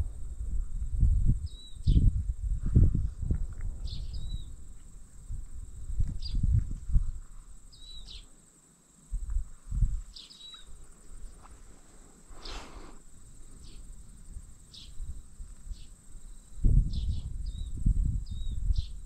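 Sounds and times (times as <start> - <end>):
insect chirps: 0.0 - 19.0
insects buzzing: 0.0 - 19.0
rustle: 0.0 - 19.0.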